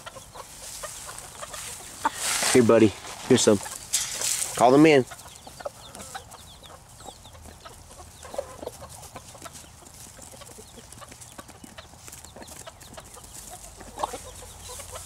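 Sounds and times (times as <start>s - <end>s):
chickens clucking: 0.0s - 15.0s
chickens pecking ticks: 0.0s - 15.0s.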